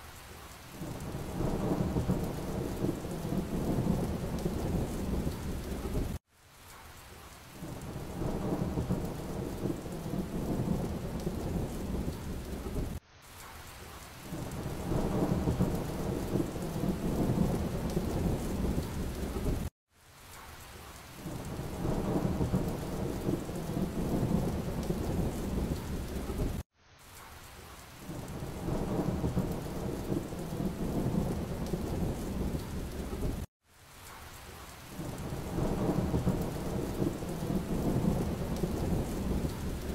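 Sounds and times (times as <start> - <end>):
rain and thunder rumbling: 0.0 - 39.9.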